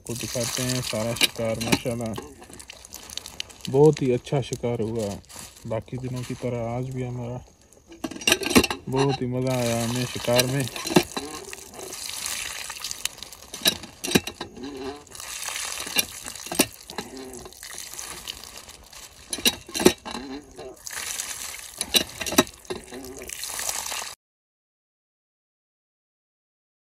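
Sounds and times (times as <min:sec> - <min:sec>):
water splashing into puddle: 0:00.0 - 0:06.8, 0:08.9 - 0:24.2
hands rinsing meat: 0:00.0 - 0:07.2, 0:08.8 - 0:24.2.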